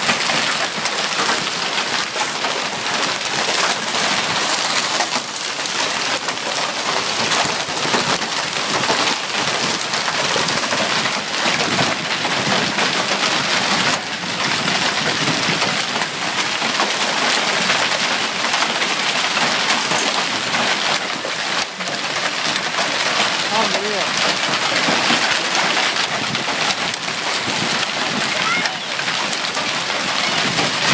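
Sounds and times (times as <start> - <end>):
hailstones clattering: 0.0 - 30.9
rain: 0.0 - 30.9.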